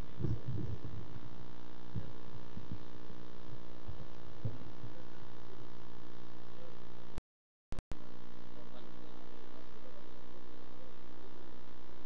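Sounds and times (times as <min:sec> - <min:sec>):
steady electrical hum: 0:00.0 - 0:07.2, 0:07.9 - 0:12.0.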